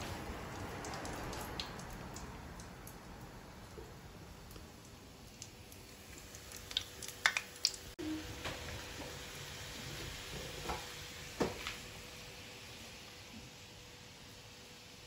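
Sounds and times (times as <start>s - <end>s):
food deep-frying in oil: 0.0s - 15.0s.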